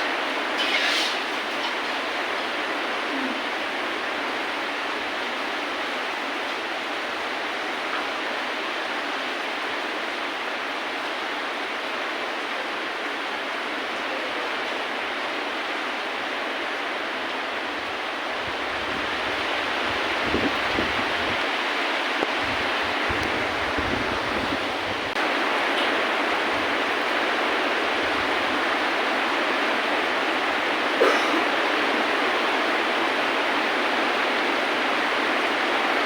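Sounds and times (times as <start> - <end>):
rain hissing: 0.0 - 36.0.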